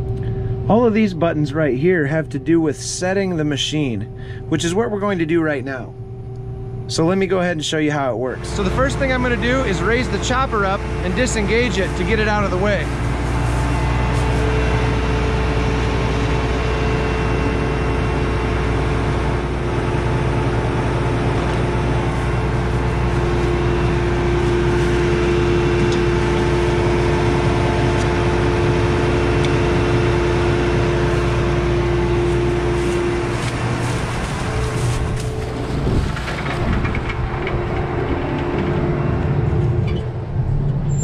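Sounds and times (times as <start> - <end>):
combine engine hum: 0.0 - 41.0
machinery whine: 0.0 - 41.0.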